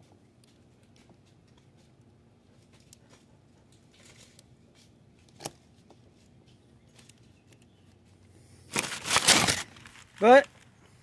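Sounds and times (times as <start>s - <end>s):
rustling handling noise: 0.4s - 11.0s.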